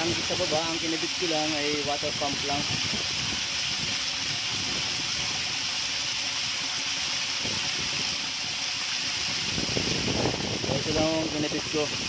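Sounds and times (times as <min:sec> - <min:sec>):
water pouring into a tank: 0:00.0 - 0:12.0.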